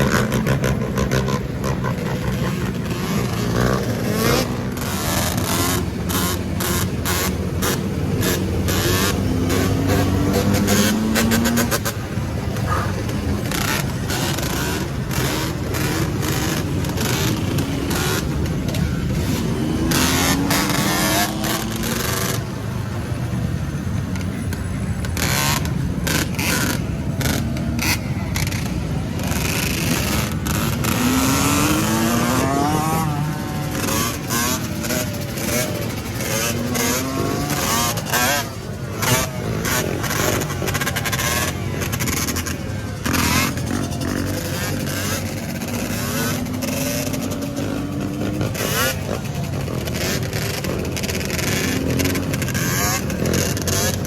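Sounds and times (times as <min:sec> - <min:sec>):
motorcycle engine running: 0:00.0 - 0:54.0
other vehicles: 0:00.0 - 0:54.0.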